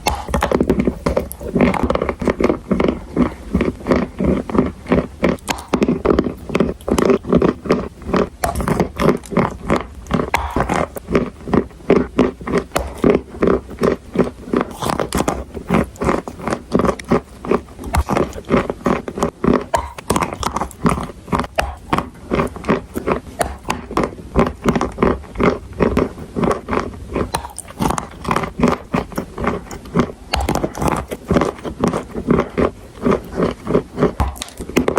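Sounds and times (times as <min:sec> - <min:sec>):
chalk being chewed crunching: 0:00.0 - 0:34.9.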